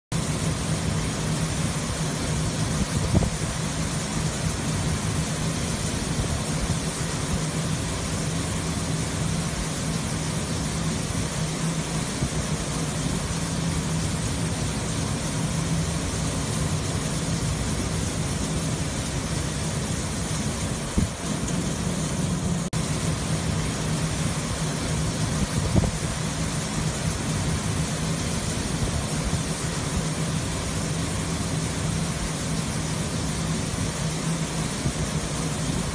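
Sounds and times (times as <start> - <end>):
granular fertilizer pouring hiss: 0.1 - 35.9
loading machinery droning: 0.2 - 35.9.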